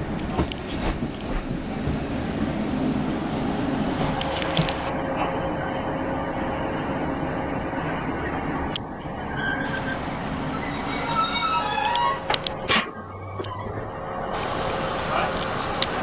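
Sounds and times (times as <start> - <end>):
train wheels and engine rumbling: 0.0 - 16.0.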